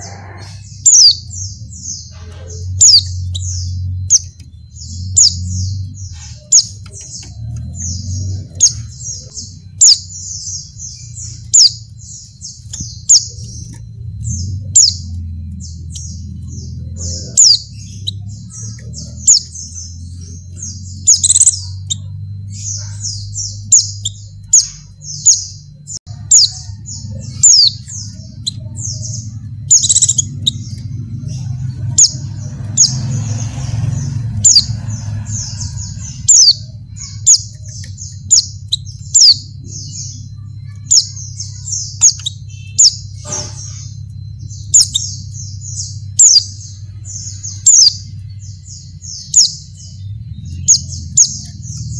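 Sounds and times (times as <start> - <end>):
bird thin high chirps: 0.0 - 51.9
steady low hum: 0.0 - 51.9.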